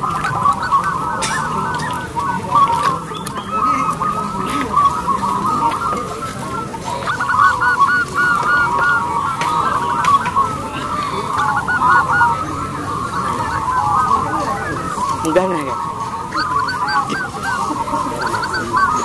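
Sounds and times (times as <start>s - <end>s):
doves cooing in chorus: 0.0s - 19.0s.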